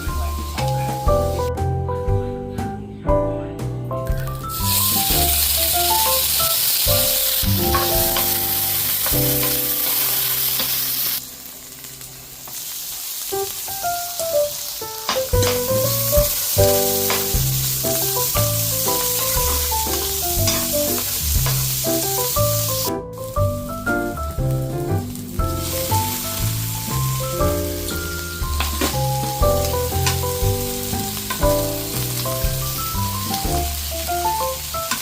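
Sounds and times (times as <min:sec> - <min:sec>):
food sizzling in a pan: 0:00.0 - 0:01.5, 0:04.2 - 0:35.0
background music: 0:00.0 - 0:11.1, 0:13.8 - 0:35.0.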